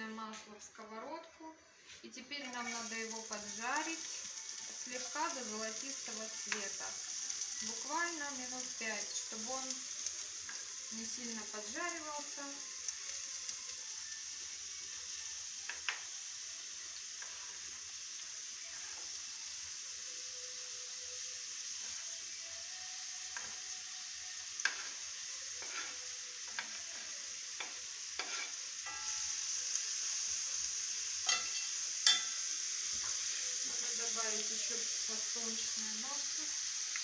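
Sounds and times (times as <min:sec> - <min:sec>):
onion sizzling in frying pan: 0:02.3 - 0:37.0.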